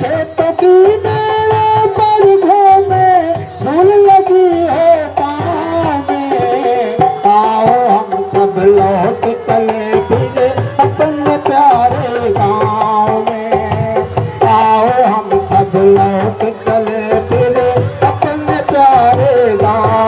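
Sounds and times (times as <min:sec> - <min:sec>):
hand drums beat: 0:00.0 - 0:20.0.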